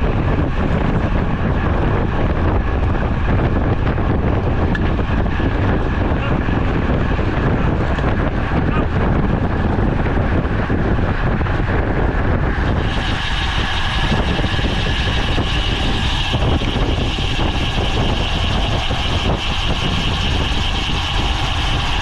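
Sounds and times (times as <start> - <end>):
wind and road noise: 0.0 - 22.0.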